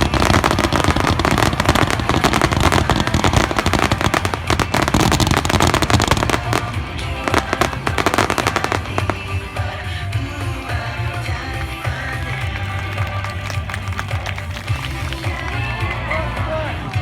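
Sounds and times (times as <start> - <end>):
fireworks crackling: 0.0 - 16.1
music with held notes: 0.0 - 17.0.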